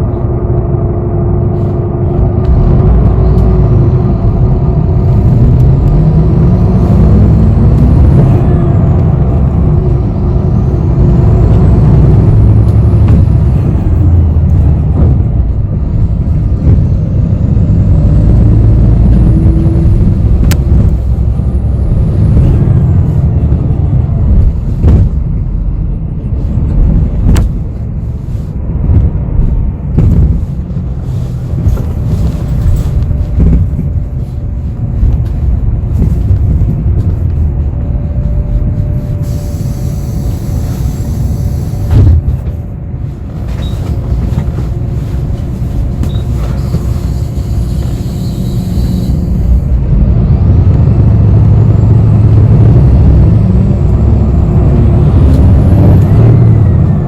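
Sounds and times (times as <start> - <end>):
bus drivetrain and road rumble: 0.0 - 57.0.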